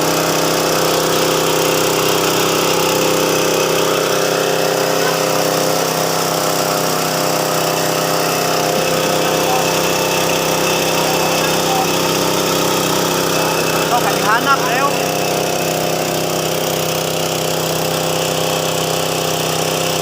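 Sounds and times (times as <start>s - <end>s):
milling machine running: 0.0s - 20.0s.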